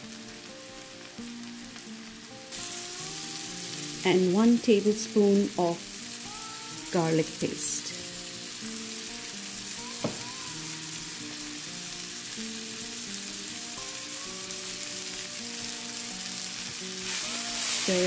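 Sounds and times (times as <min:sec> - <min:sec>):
onions sizzling in a pan: 0:00.0 - 0:18.0
soft melodic background music: 0:00.0 - 0:18.0.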